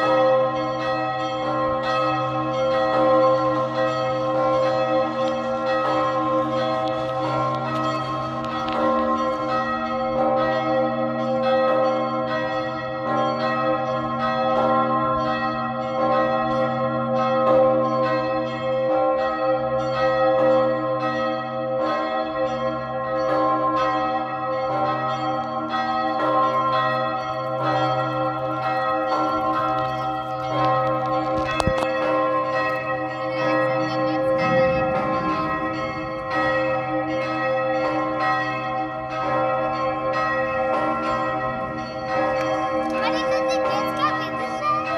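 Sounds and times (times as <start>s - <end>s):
large bell ringing: 0.0s - 44.9s.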